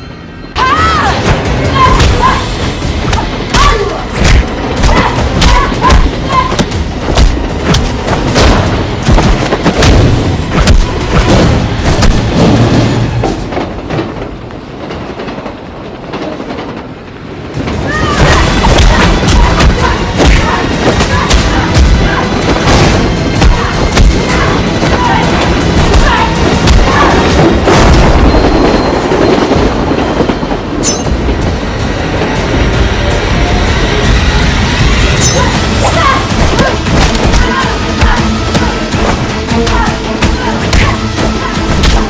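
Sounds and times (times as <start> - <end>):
train carriage rumbling on rails: 0.0 - 42.0.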